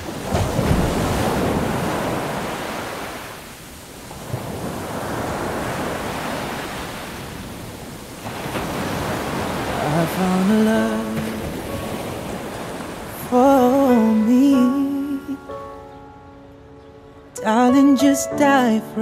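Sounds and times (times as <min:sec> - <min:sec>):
ocean waves washing in: 0:00.0 - 0:17.4.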